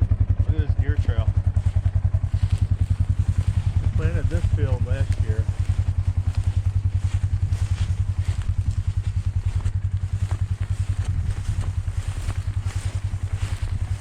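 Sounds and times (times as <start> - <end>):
small vehicle engine running: 0.0 - 14.0.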